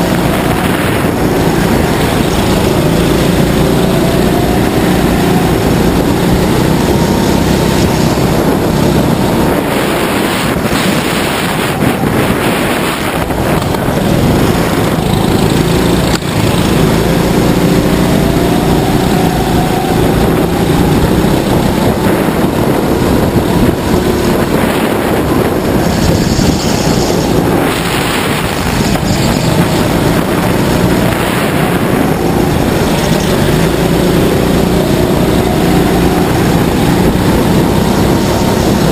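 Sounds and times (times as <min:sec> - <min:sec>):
go-kart engine accelerating: 0:00.0 - 0:38.9
wind rushing over microphone: 0:00.0 - 0:38.9.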